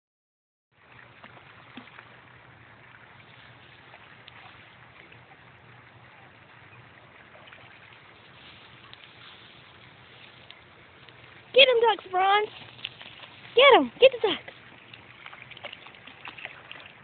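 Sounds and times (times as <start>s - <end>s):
dog wading in shallow water: 0.8s - 17.0s
faint outdoor background noise: 0.8s - 17.0s.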